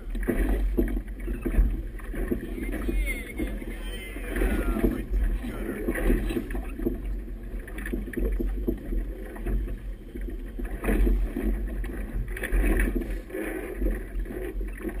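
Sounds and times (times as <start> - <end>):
water splashing against hull: 0.0 - 15.0.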